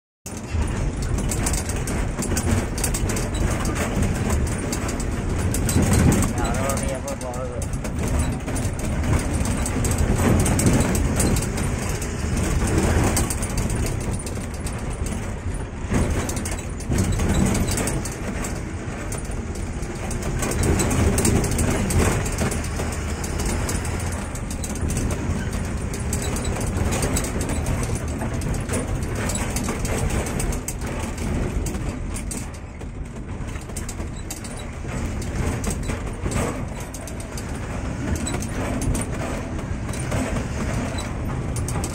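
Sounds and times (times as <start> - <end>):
cab rattling and clattering: 0.3 - 41.9
road noise: 0.3 - 41.9
truck engine under load: 0.3 - 41.9.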